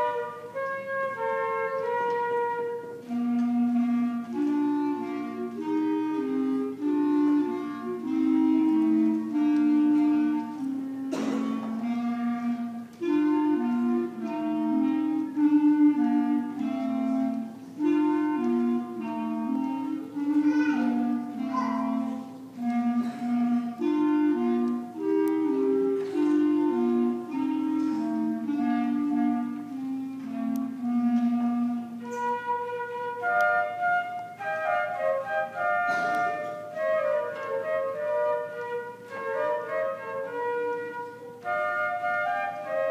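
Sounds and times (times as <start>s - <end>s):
clarinet melody: 0.0s - 42.9s
high flute-like notes: 0.0s - 42.9s
school concert band playing: 0.0s - 42.9s.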